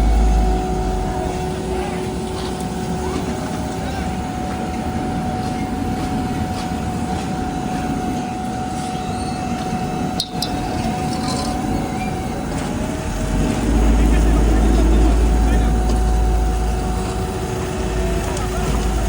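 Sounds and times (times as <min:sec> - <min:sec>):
diesel engines rumbling: 0:00.0 - 0:19.0
high machine whine: 0:00.0 - 0:19.0.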